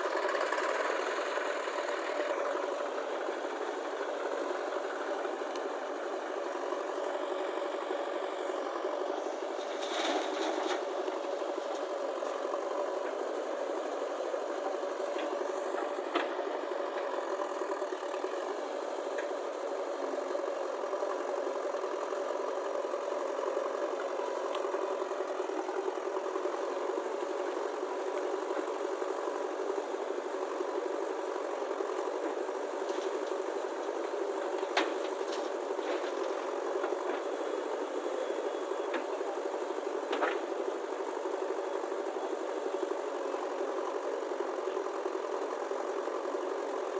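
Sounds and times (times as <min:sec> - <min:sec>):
engine running with a rattle: 0:00.0 - 0:46.9.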